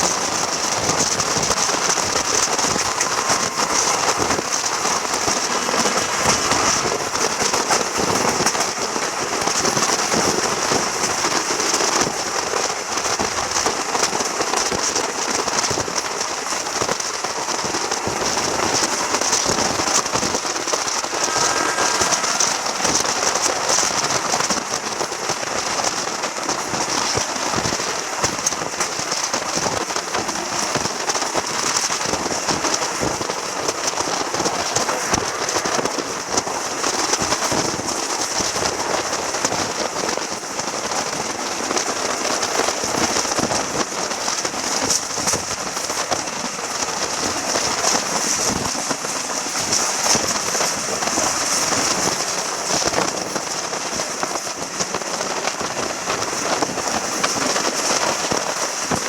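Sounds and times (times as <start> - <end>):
passenger train running: 0.0 - 59.0.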